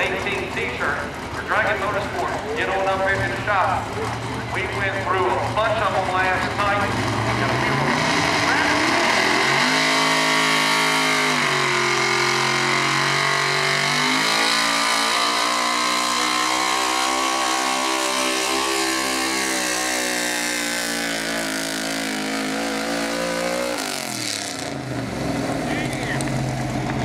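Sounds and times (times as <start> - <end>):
truck engine at high revs: 0.0 - 27.0.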